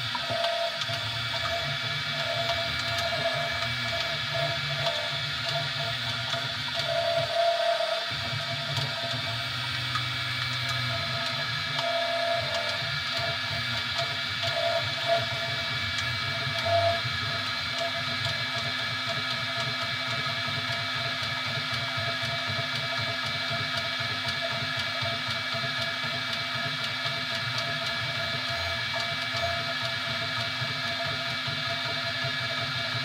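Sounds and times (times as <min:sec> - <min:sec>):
three d printer motors whirring: 0:00.0 - 0:33.0.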